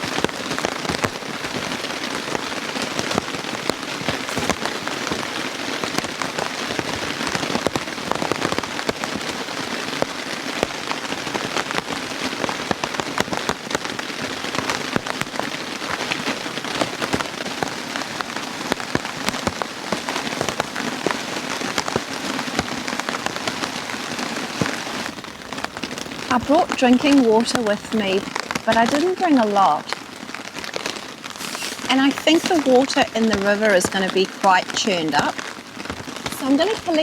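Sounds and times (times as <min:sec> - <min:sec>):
rain on a tarp: 0:00.0 - 0:37.0.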